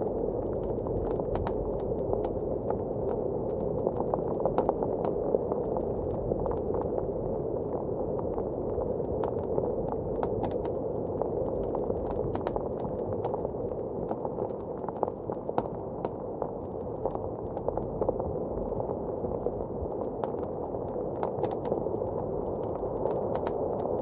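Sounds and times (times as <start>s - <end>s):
muffled blizzard wind: 0.0s - 24.0s.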